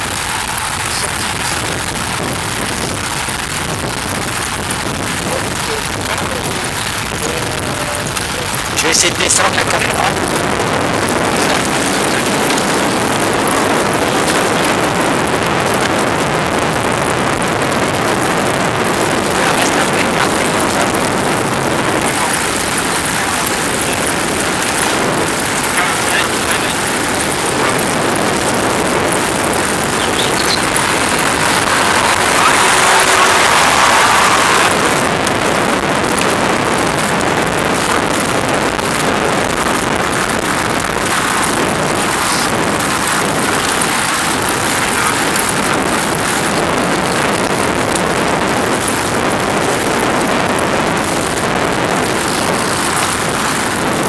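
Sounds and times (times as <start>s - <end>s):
vehicle road and wind noise: 0.0s - 54.0s.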